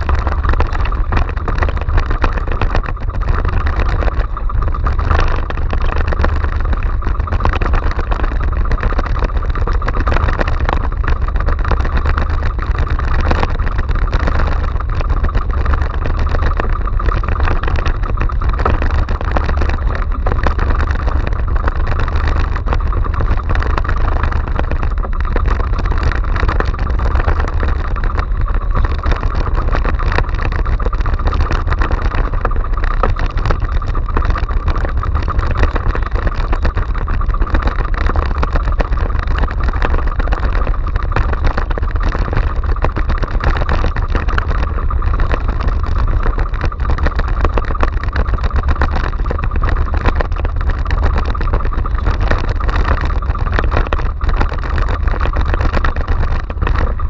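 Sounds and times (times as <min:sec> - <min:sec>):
boat engine running: 0:00.0 - 0:57.0
sea water rushing around hull: 0:00.0 - 0:57.0.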